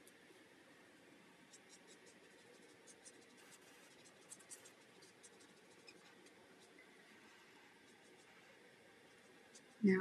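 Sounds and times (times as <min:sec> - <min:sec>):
marker scratching on paper: 0:01.5 - 0:10.0.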